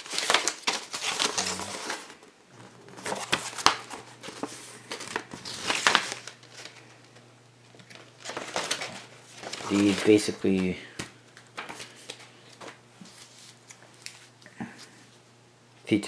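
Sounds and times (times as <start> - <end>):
paper rustling and crinkling: 0.0 - 14.4.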